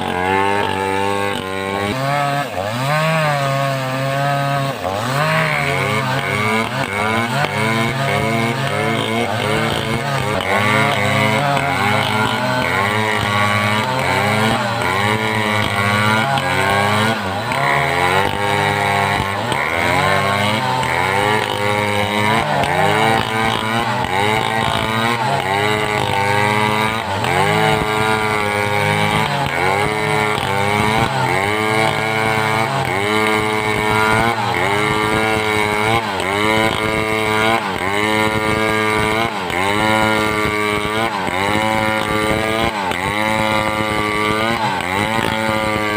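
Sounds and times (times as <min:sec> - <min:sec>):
chainsaw cutting timber: 0:00.0 - 0:45.9.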